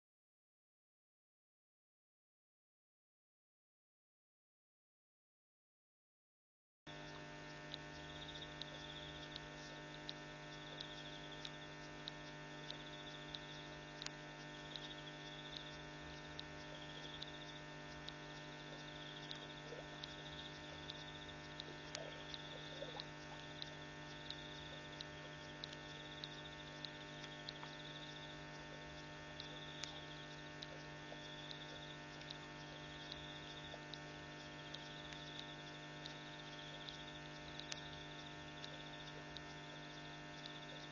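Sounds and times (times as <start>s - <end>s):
faint high pulsing tone: 6.9s - 40.9s
steady electrical hum: 6.9s - 40.9s
sharp clicks: 7.0s - 40.9s.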